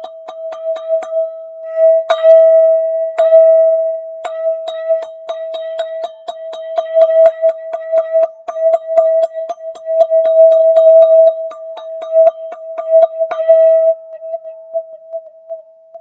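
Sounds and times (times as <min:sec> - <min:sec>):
metal tube struck in a roll: 0:00.0 - 0:01.3, 0:02.0 - 0:02.6, 0:03.2 - 0:15.4
ringing metal tube strike: 0:00.0 - 0:16.0.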